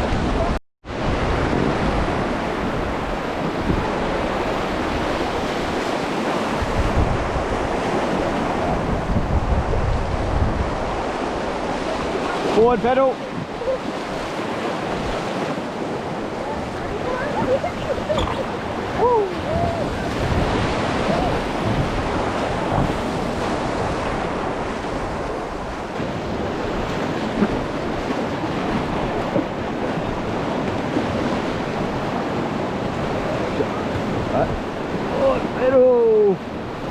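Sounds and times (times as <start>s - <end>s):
river water rushing through rapids: 0.0s - 36.9s
wind buffeting microphone: 0.0s - 36.9s.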